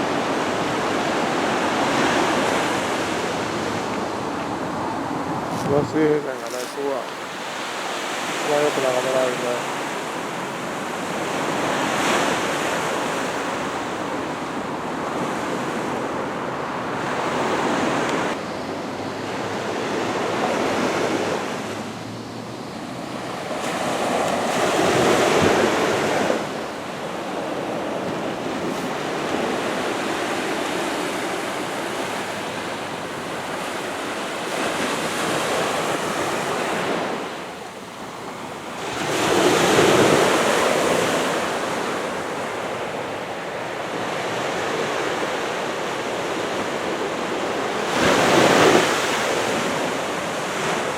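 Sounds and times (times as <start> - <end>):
small waves washing up beach: 0.0 - 50.9.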